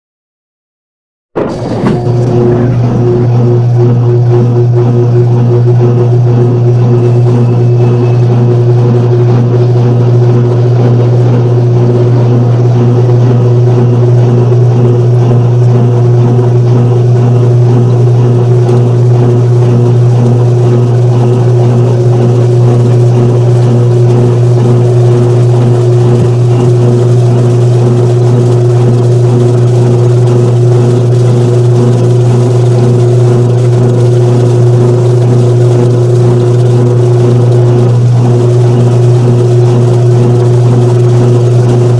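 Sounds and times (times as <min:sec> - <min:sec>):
washing machine spinning: 0:01.4 - 0:41.9.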